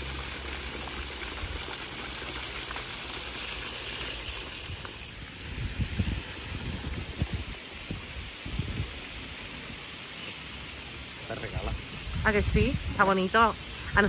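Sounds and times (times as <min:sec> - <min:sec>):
fountain water splashing: 0:00.0 - 0:14.0
water pouring into a pool: 0:00.0 - 0:14.0.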